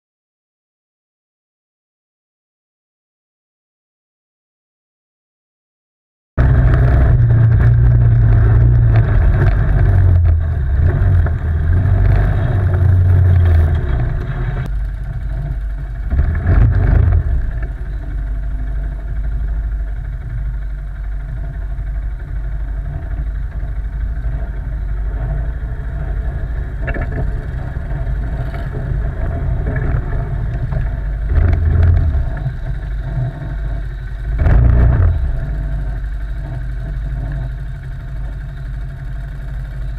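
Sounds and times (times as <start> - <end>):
quad engine revving: 6.4 - 39.9.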